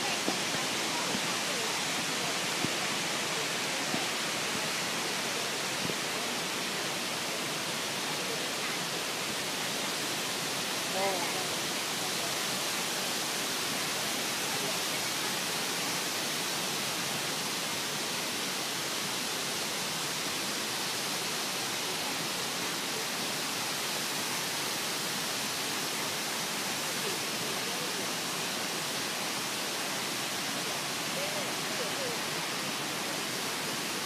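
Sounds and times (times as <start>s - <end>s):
flowing creek water: 0.0s - 34.0s.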